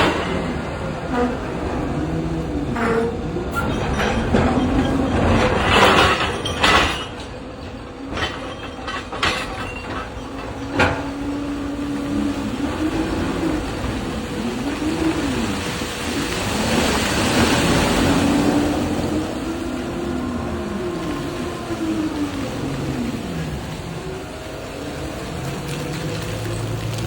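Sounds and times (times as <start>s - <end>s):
excavator motor whine: 0.0s - 5.9s, 9.9s - 27.0s.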